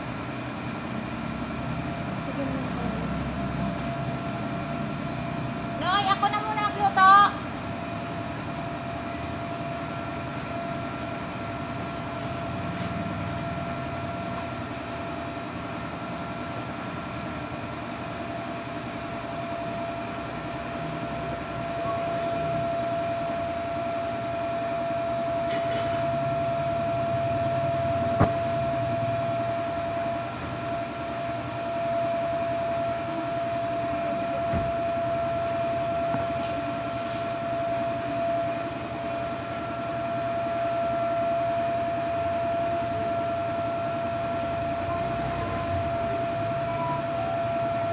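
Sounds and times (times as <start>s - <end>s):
mechanical hum with high whine: 0.0s - 47.9s.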